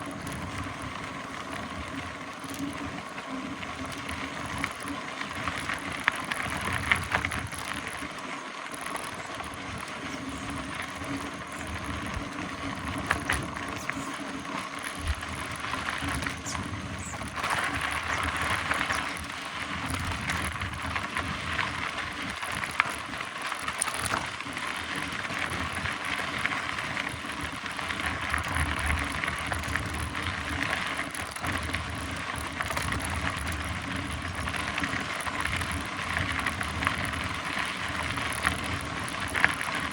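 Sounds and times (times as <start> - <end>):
mountain bike tyres on trail: 0.0 - 39.9.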